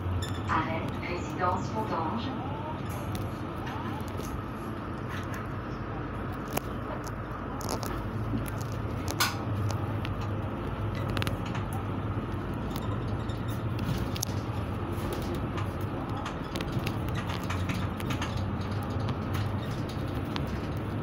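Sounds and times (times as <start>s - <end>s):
bus engine hum: 0.0s - 21.0s
bus interior clicks and rattles: 0.0s - 21.0s.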